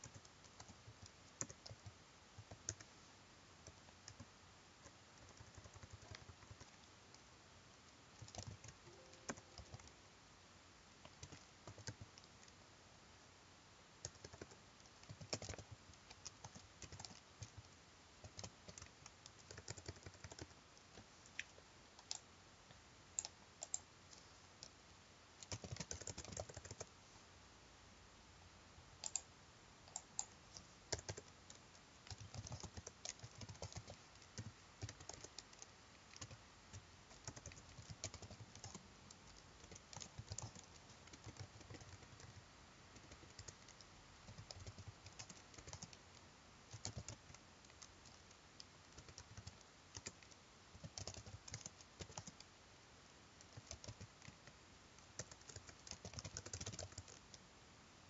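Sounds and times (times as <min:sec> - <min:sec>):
faint keyboard typing: 0:00.0 - 0:10.1, 0:11.0 - 0:12.7, 0:14.0 - 0:27.0, 0:29.0 - 0:57.6.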